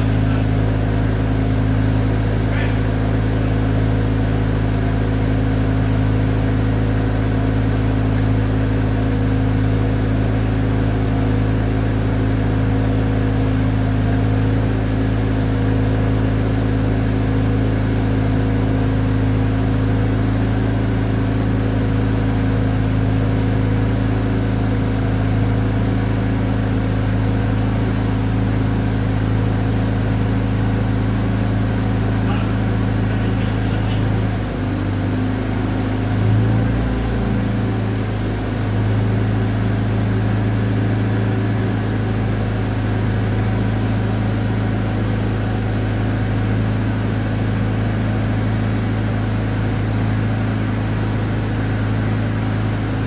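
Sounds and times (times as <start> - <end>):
forklift engine running: 0.0 - 53.0.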